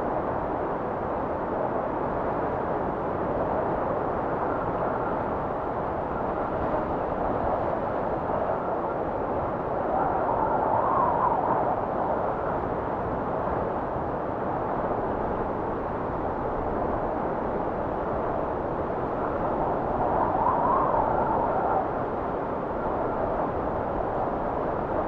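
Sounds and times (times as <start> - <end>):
blizzard wind whistling: 0.0 - 25.0.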